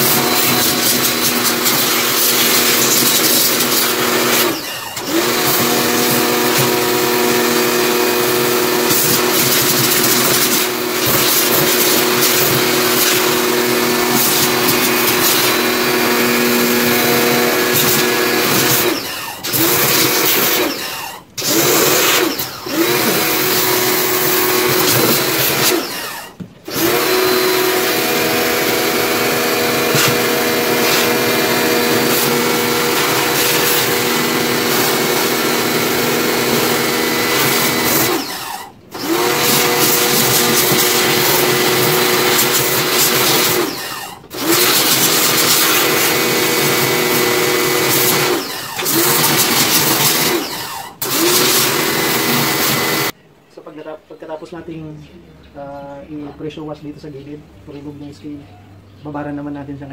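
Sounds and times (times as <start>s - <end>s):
pressure washer motor humming: 0.0s - 53.2s.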